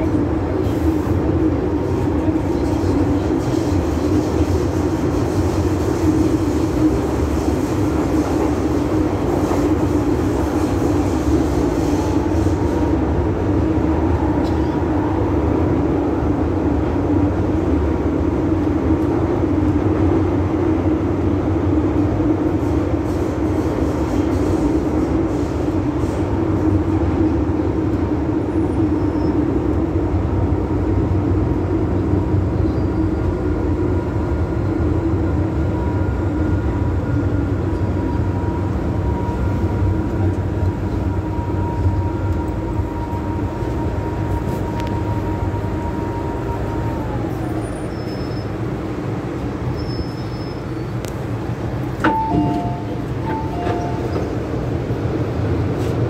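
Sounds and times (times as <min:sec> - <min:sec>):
thin train whine: 0:00.0 - 0:56.0
train wheels rumbling on rails: 0:00.0 - 0:56.0.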